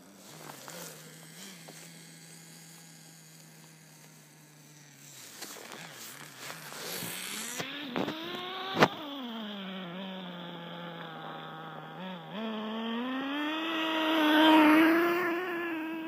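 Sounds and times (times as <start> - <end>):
small nitro engine idling and revving: 0.0 - 16.0.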